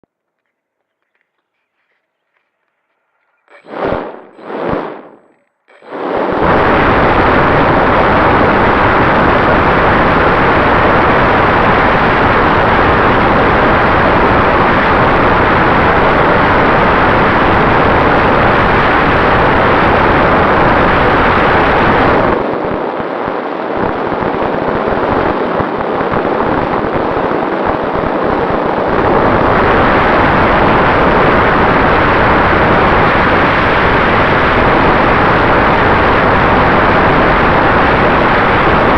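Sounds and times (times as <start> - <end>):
drone propeller and wind noise: 3.3 - 38.9.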